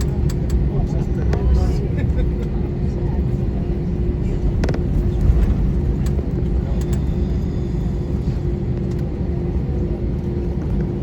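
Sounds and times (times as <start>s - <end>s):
airplane cabin rumble and hum: 0.0s - 11.0s.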